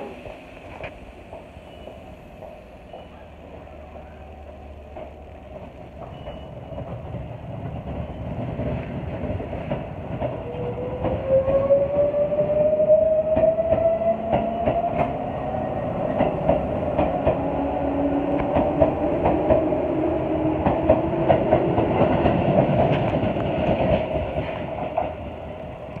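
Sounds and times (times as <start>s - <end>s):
wheels clacking over rail joints: 0.0s - 11.7s, 13.3s - 26.0s
electric train motor whine: 0.0s - 23.2s.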